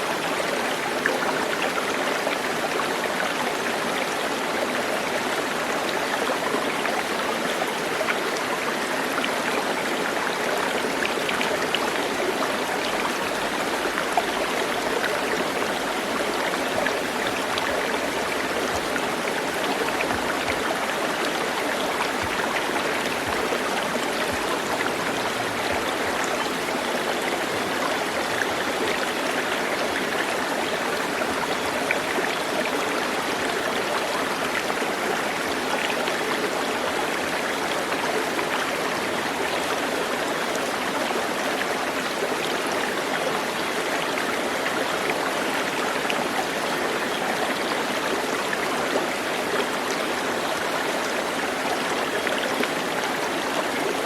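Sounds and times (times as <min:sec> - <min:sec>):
flowing water: 0:00.0 - 0:54.0
water trickling: 0:05.0 - 0:54.0.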